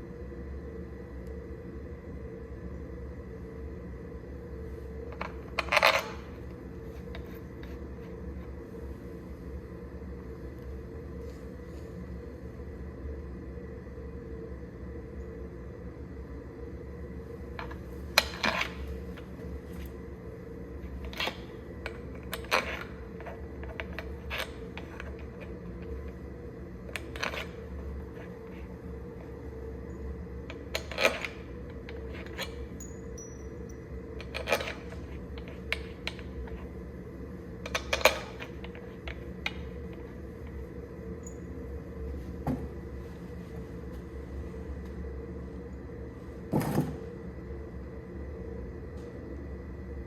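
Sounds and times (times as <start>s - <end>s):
steady machine hum: 0.0s - 50.0s.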